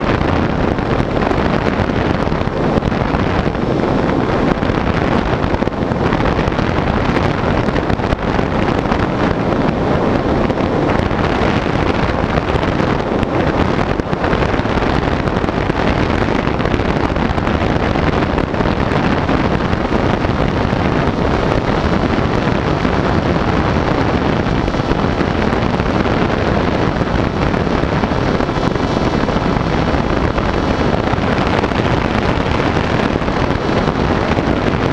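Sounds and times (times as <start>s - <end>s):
electric motor and propeller: 0.0s - 34.9s
wind on microphone: 0.0s - 34.9s.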